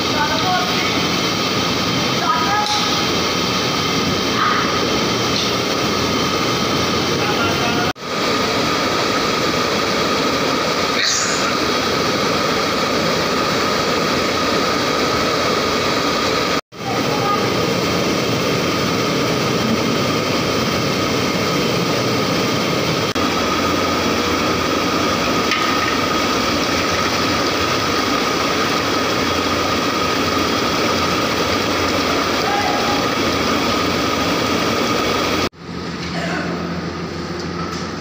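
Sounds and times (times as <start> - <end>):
burner flames roaring: 0.0 - 35.8.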